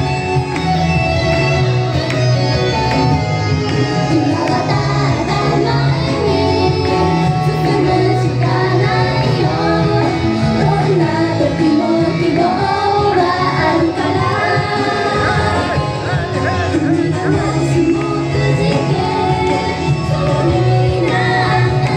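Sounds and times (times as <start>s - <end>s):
loud pop music: 0.0s - 21.9s
women singing into microphones: 3.9s - 21.9s.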